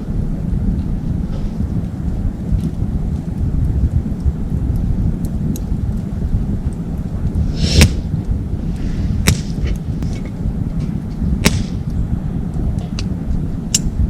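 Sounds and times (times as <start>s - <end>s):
low fire rumble: 0.0s - 14.0s
wood fire crackling: 0.0s - 14.0s
fire sharp pops: 0.6s - 14.0s.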